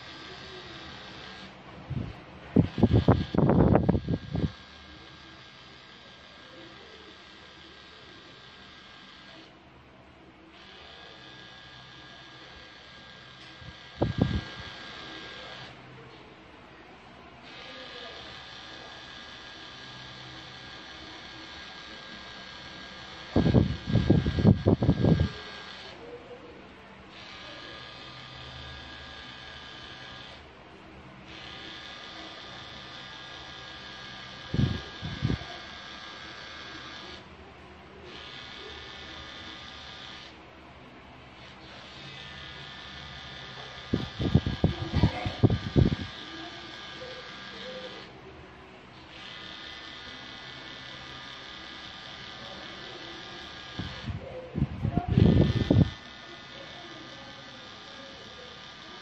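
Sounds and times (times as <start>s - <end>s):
tattoo machine buzzing: 0.0s - 9.6s, 10.5s - 16.1s, 17.4s - 26.2s, 27.0s - 40.4s, 41.2s - 48.3s, 48.9s - 59.0s.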